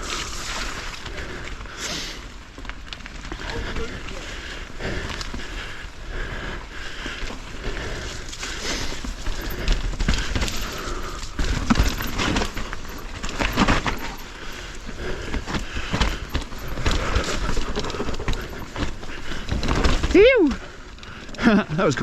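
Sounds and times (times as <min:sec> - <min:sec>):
bike tyres over dirt: 0:00.0 - 0:22.0
bike rattling over bumps: 0:02.4 - 0:21.6.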